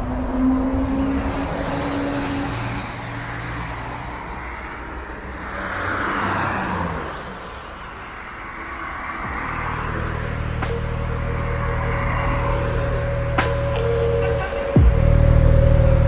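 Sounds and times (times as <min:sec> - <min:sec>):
car passing on wet street: 0:00.0 - 0:14.8.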